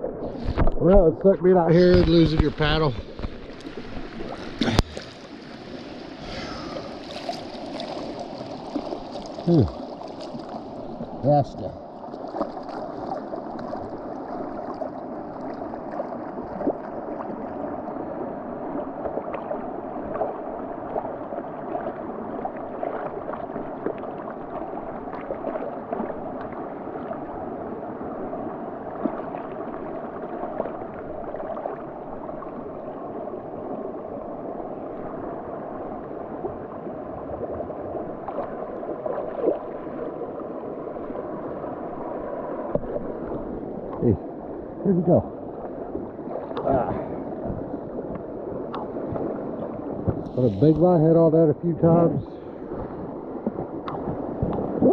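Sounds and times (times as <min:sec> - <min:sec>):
water sloshing and gurgling: 0:00.0 - 0:54.9
small water splashes: 0:01.7 - 0:50.9, 0:52.2 - 0:54.9.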